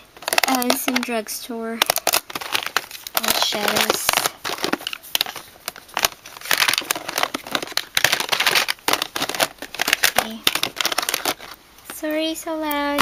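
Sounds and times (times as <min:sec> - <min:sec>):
plastic cases clattering: 0:00.0 - 0:01.2, 0:01.8 - 0:11.6
plastic crinkling: 0:00.0 - 0:13.0.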